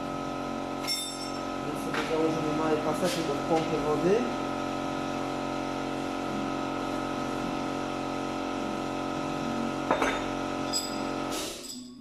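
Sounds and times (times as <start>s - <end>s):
machine hum: 0.0s - 11.3s.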